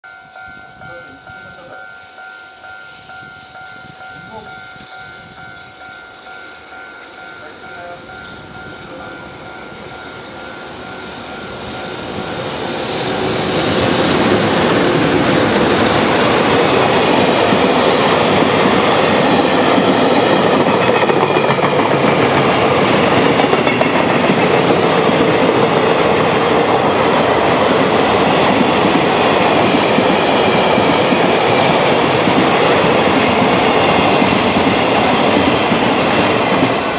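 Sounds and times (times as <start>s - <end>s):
electric locomotive passing: 0.0s - 36.9s
train wheels on rails: 0.1s - 36.9s.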